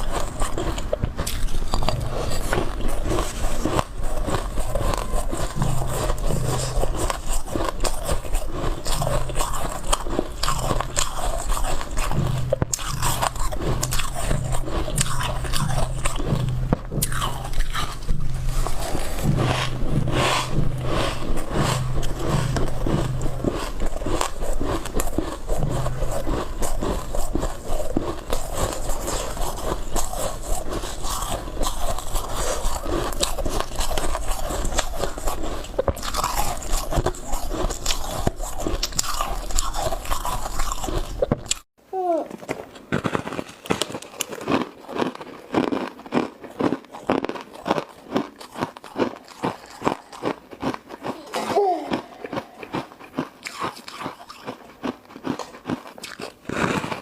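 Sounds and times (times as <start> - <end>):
ice crunching between teeth: 0.0 - 41.7, 42.3 - 57.0.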